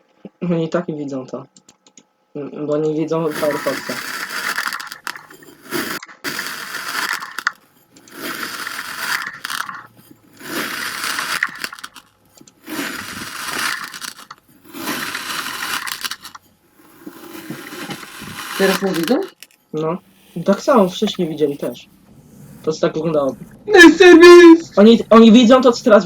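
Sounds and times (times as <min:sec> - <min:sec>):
sand being cut and crushed: 0:03.2 - 0:26.0.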